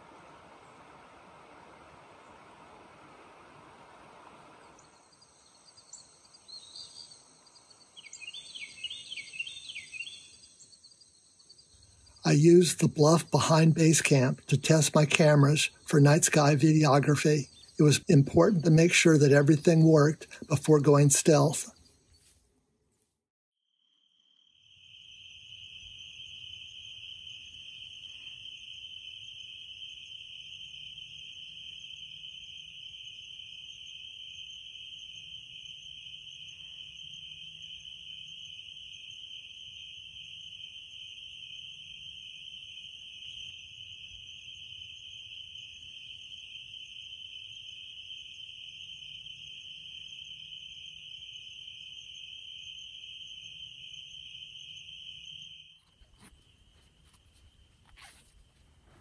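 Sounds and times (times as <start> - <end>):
crickets trilling: 0.0 - 22.3, 23.7 - 59.0.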